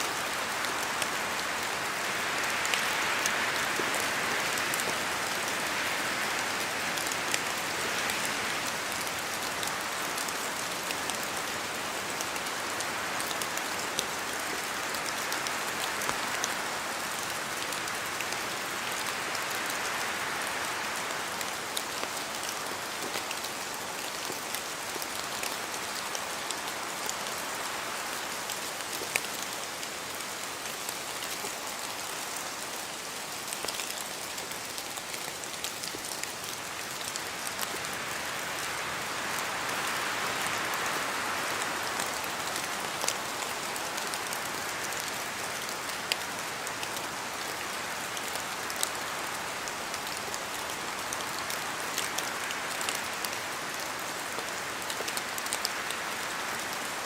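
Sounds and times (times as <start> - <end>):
rain hiss: 0.0 - 57.0
wind through trees: 0.0 - 57.0.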